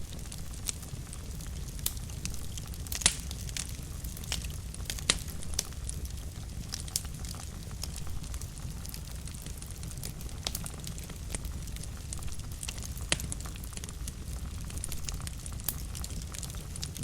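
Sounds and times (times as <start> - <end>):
low rumble of flames: 0.0 - 17.0
wood fire crackles and pops: 0.0 - 17.0.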